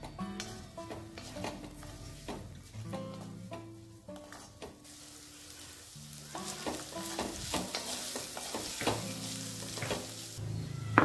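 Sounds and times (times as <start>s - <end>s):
wooden spatula scraping a pan: 0.4s - 3.6s, 4.2s - 10.4s
turmeric sizzling in a pan: 0.4s - 10.6s.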